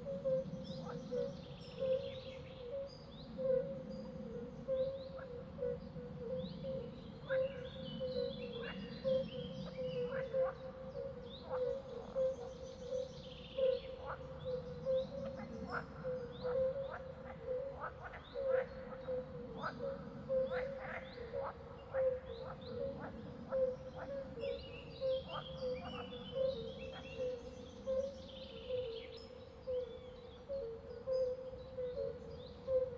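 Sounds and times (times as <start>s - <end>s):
birds singing trills: 0.0s - 32.9s
frogs calling: 0.0s - 32.9s.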